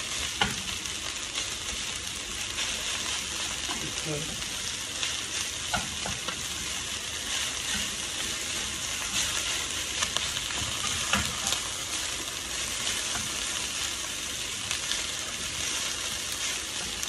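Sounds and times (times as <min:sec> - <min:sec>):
rice sizzling in frying pan: 0:00.0 - 0:17.0.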